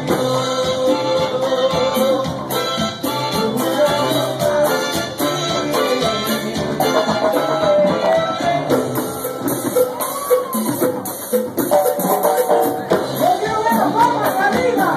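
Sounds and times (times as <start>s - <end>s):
brass band playing: 0.0s - 14.9s
percussion beat: 0.0s - 14.9s.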